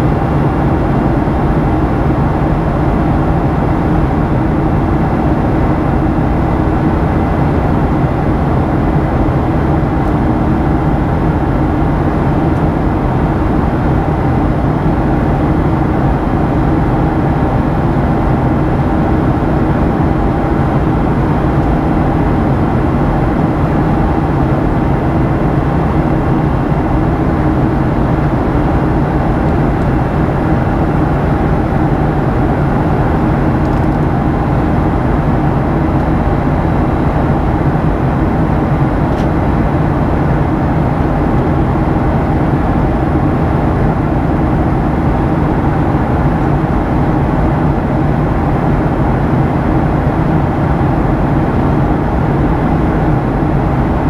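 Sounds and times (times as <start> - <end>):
airplane cabin airflow roar: 0.0 - 54.0
jet engines humming: 0.0 - 54.0.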